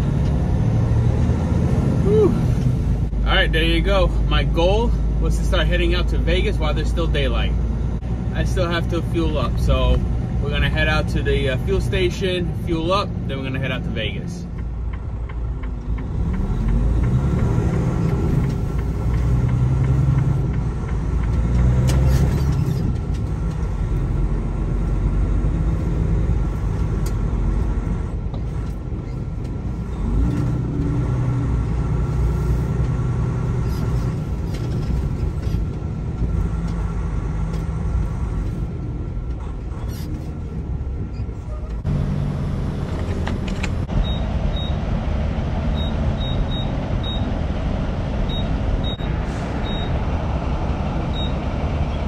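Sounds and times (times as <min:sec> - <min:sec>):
truck diesel engine rumbling: 0:00.0 - 0:52.0.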